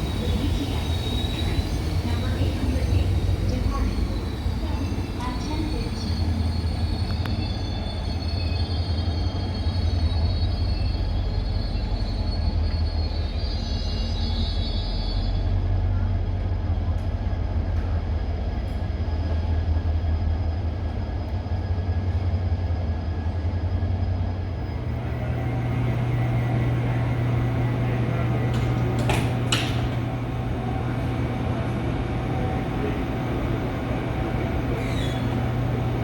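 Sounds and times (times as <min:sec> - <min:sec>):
train rumble and hum: 0:00.0 - 0:36.0.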